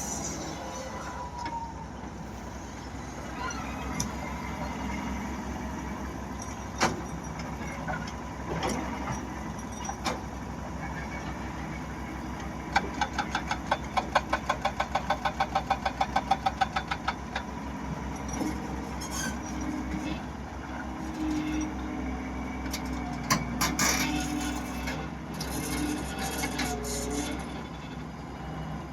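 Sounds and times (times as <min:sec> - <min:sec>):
heavy machinery diesel engines: 0:00.0 - 0:28.9.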